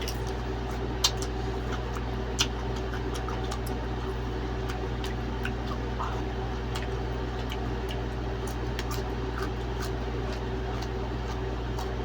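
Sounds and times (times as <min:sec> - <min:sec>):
chewing clicks and smacks: 0:00.0 - 0:12.0
steady low hum: 0:00.0 - 0:12.0.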